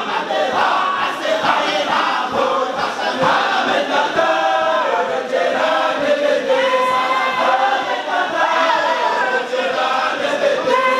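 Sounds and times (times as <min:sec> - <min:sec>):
men chanting in unison: 0:00.0 - 0:10.9.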